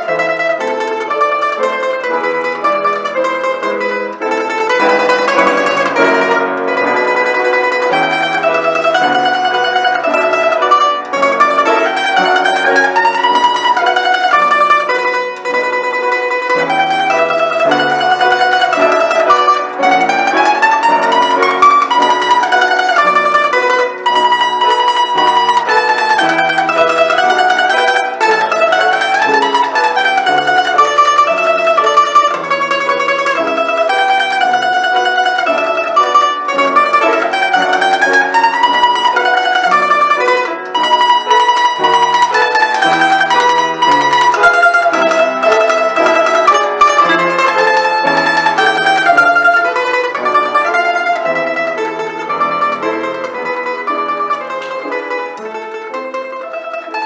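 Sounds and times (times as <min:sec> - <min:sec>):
plucked string instrument melody: 0:00.0 - 0:57.0.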